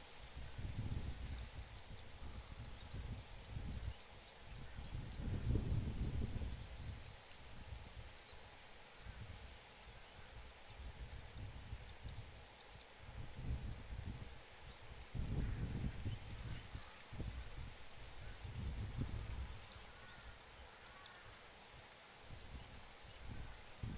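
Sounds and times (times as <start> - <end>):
cricket chirping: 0.0 - 23.9
high-pitched insect trill: 0.2 - 23.9.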